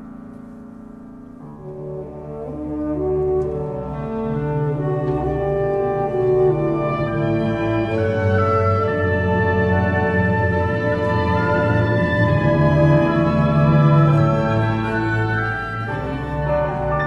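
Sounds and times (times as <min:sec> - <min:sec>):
grand piano playing: 0:00.0 - 0:17.0
horns and brass chords: 0:01.4 - 0:17.0.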